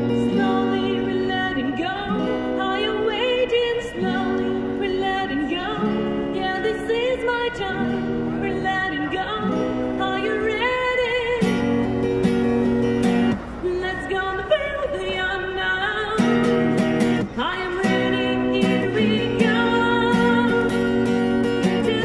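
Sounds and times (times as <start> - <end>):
woman singing with vibrato: 0.0 - 12.0, 13.6 - 22.0
strummed acoustic guitar: 0.0 - 22.0.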